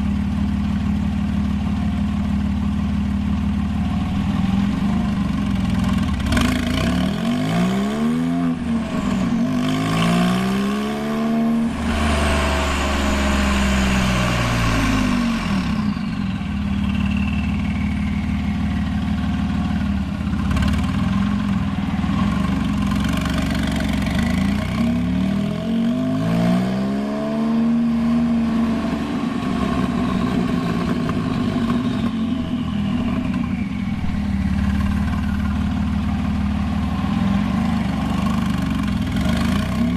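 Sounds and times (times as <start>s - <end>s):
car engine revving: 3.5s - 39.9s.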